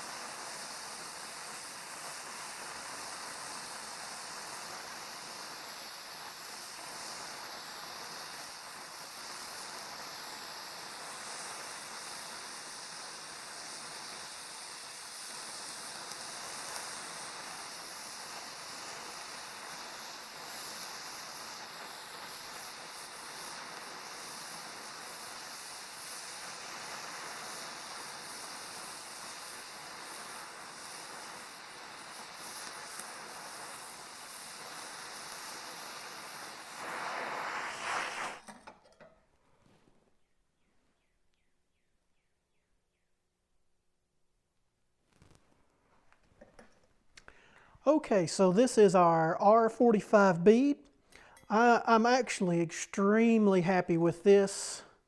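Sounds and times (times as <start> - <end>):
welding torch flame hissing: 0.0 - 38.7, 45.0 - 55.0.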